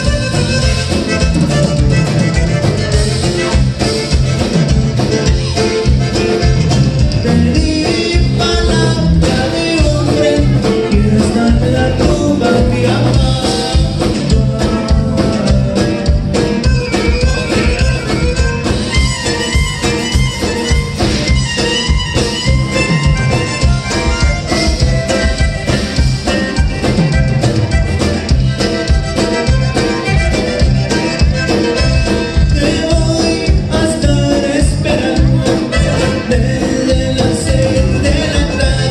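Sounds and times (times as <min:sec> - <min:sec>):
bajo sexto: 0:00.0 - 0:38.9
bass guitar: 0:00.0 - 0:38.9
button accordion: 0:00.0 - 0:38.9
drums: 0:00.0 - 0:38.9.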